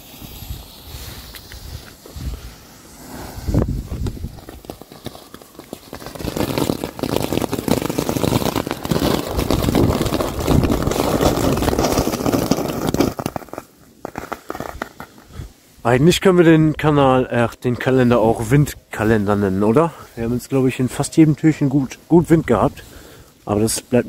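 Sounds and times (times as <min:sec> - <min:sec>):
firework fountain crackling hiss: 0:00.0 - 0:16.6, 0:17.3 - 0:24.0.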